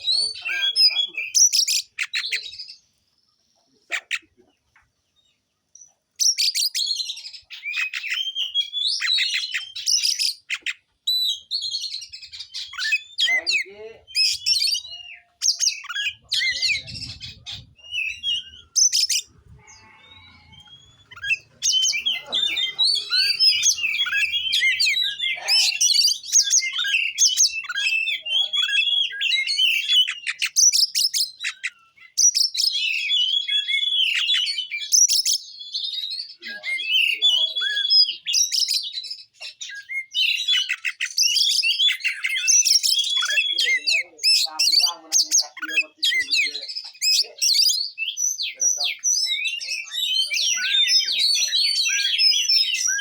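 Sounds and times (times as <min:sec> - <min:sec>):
bird singing chirps and whistles: 0:00.0 - 0:02.8, 0:05.2 - 0:53.0.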